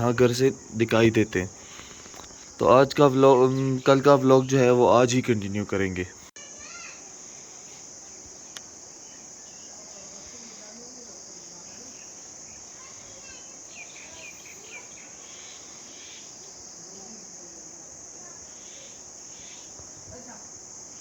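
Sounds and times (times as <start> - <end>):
faint bird chirps: 0.0 - 17.2, 18.2 - 20.2
insects chorus: 0.0 - 21.0.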